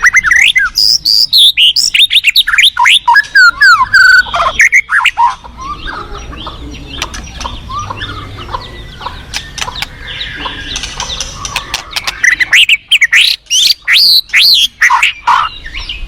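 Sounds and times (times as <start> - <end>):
birds chattering: 0.0 - 16.0.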